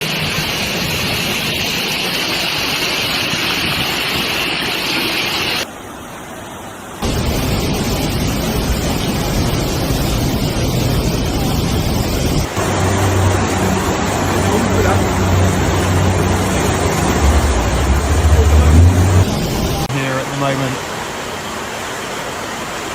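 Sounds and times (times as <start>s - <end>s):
floodwater rushing: 0.0s - 22.9s
rain: 0.0s - 22.9s.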